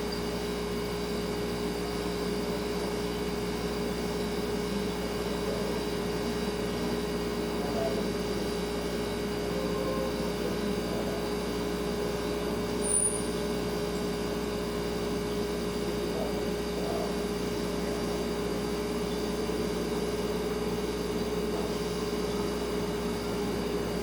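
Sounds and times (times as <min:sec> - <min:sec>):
refrigerator compressor humming: 0:00.0 - 0:24.0.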